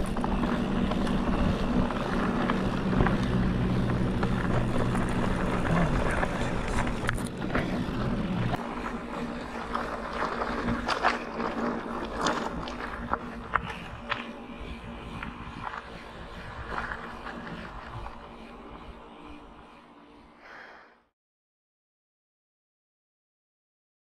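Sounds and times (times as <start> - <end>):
bike clicks and rattles: 0.0 - 19.3
bike tyres on dirt and stones: 0.0 - 20.0
low drone: 0.0 - 21.1.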